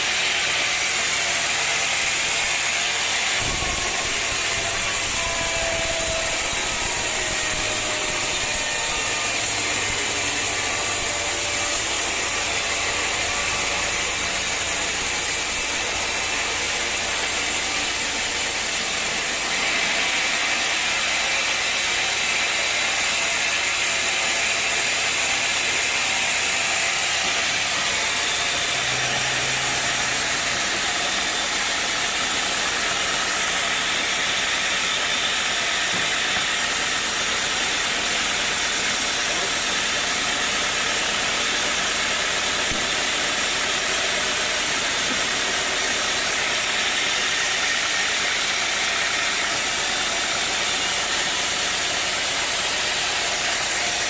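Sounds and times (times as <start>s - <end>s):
sawmill machinery clatter and whir: 0.0s - 54.0s
wood being sawn: 0.0s - 54.0s.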